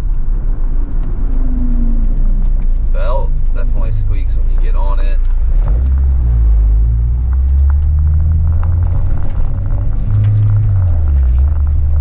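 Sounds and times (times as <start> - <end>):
car engine droning: 0.0 - 12.0
road rumble: 0.0 - 12.0.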